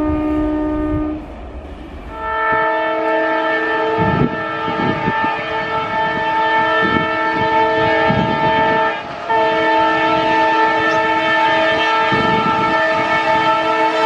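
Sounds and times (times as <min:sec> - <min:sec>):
locomotive horn blast: 0:00.0 - 0:14.0.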